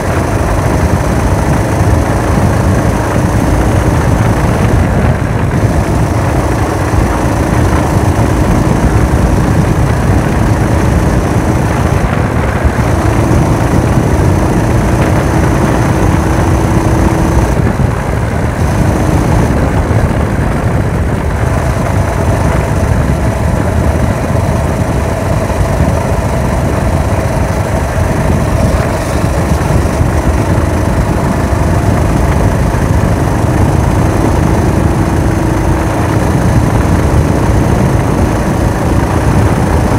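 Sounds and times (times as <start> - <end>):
small motorbike engine running: 0.0 - 39.9
wind rumble on microphone: 0.0 - 39.9.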